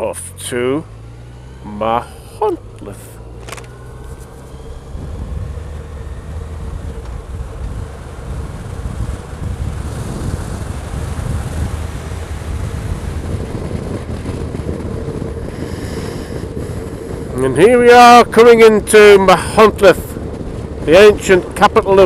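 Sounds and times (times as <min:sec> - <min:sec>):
motorcycle engine rumble: 0:00.0 - 0:22.0
wind buffeting microphone: 0:02.6 - 0:22.0.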